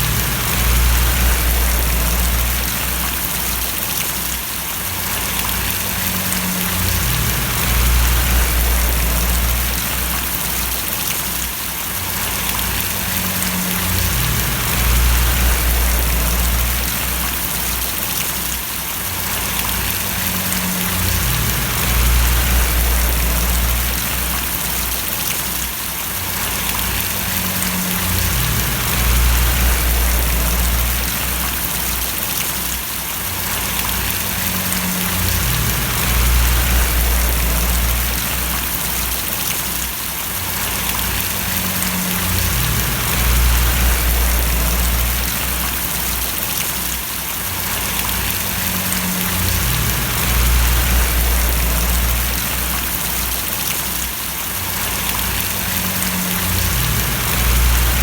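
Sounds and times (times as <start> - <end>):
low hum: 0.0 - 3.6, 5.3 - 11.1, 12.2 - 17.8, 19.6 - 25.3, 26.5 - 32.2, 33.7 - 39.5, 40.8 - 46.6, 48.0 - 53.7, 55.0 - 58.0
steady rain splashing: 0.0 - 58.0.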